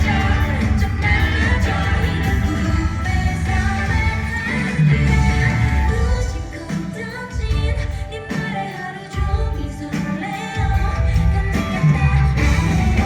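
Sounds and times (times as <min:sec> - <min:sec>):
pop-rock band playing: 0:00.0 - 0:13.0
woman singing: 0:00.0 - 0:13.0.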